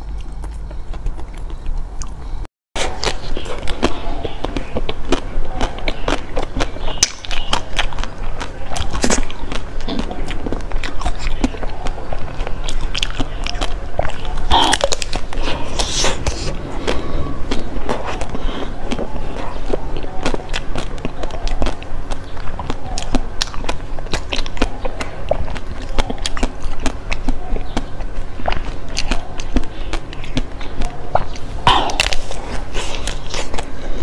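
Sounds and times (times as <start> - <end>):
chewing dessert wet smacks: 0.0 - 34.0.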